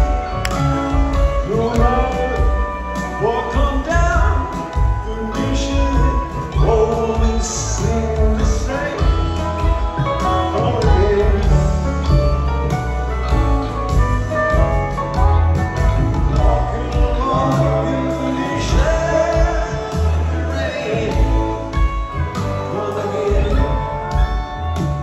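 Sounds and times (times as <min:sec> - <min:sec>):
live band playing slow song: 0:00.0 - 0:25.0.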